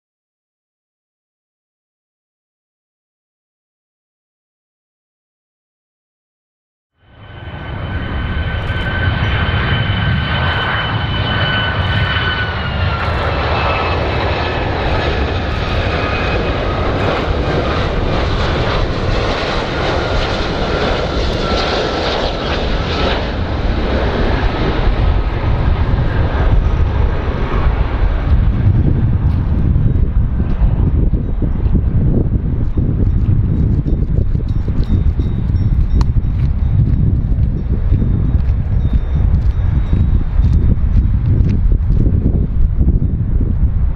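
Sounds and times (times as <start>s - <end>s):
engine high whine: 7.0s - 43.8s
airplane engines rumbling: 7.0s - 43.9s.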